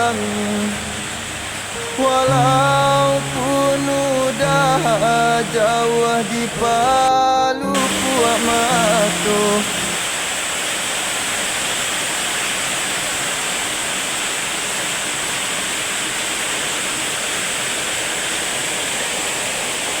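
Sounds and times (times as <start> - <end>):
heavy rain falling: 0.0 - 7.1, 7.8 - 20.0.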